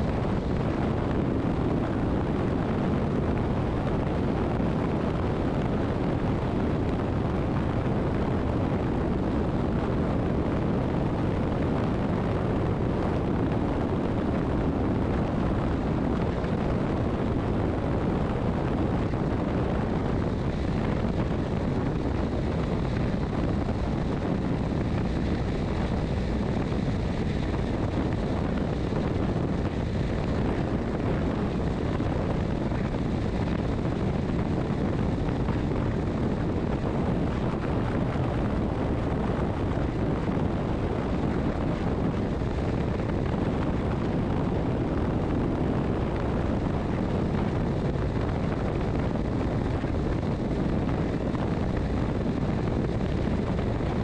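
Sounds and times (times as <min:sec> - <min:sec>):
low rumble of motorcycle engine: 0:00.0 - 0:54.0
wind rush on microphone: 0:00.0 - 0:54.0.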